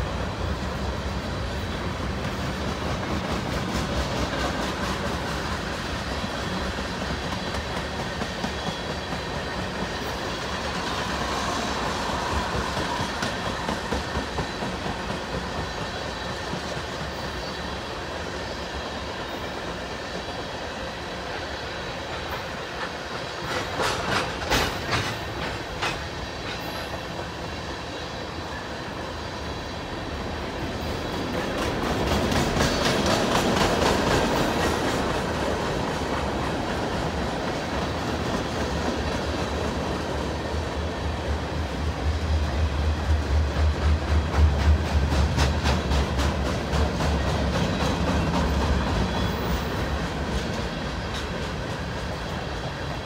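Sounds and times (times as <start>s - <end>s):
steel wheels clattering on rails: 0.0s - 29.0s, 29.8s - 53.0s.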